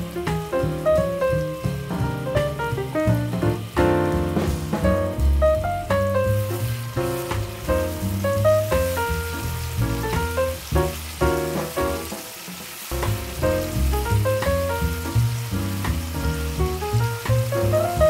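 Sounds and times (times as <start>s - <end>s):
instrumental background music: 0.0s - 18.0s
paste sizzling in frying pan: 0.0s - 18.0s.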